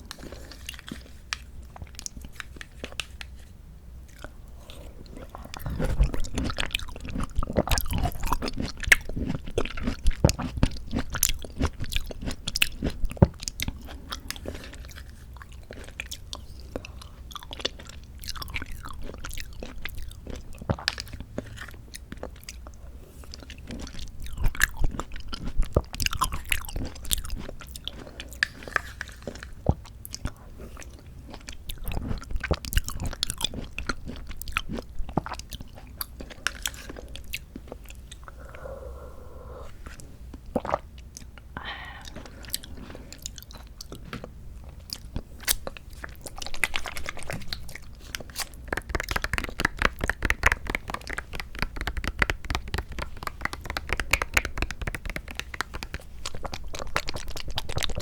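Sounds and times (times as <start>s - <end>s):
person chewing fruit: 0.0s - 58.0s.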